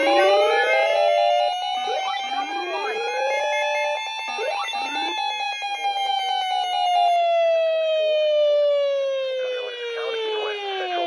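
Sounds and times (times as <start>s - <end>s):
warning siren tones: 0.0s - 11.0s.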